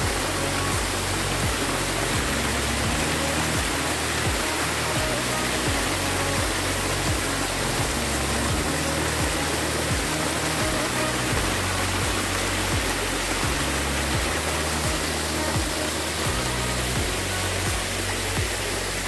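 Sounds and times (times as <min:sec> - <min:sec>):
background music with bass beat: 0:00.0 - 0:19.0
waterfall rushing over rocks: 0:00.0 - 0:19.0.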